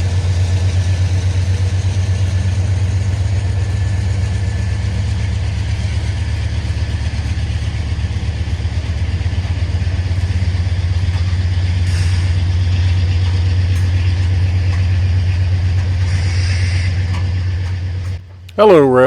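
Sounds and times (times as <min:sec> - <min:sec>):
diesel locomotive engine rumble: 0:00.0 - 0:19.0.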